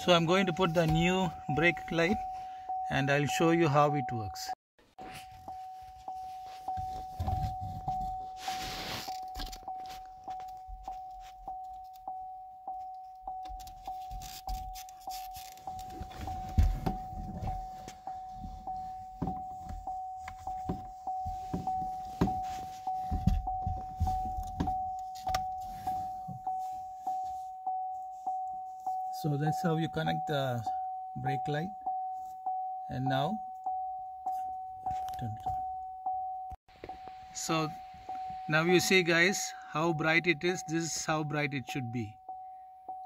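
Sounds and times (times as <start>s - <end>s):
car warning chime dinging: 0.0s - 43.0s.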